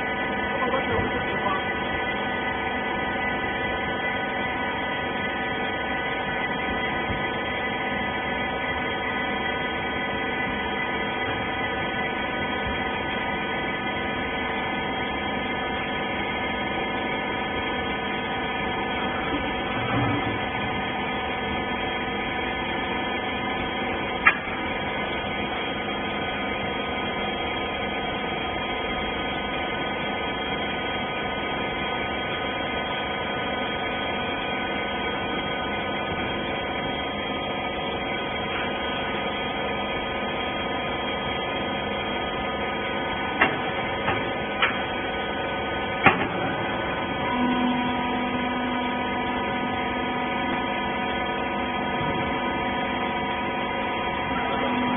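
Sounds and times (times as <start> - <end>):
baler motor humming: 0.0 - 54.9.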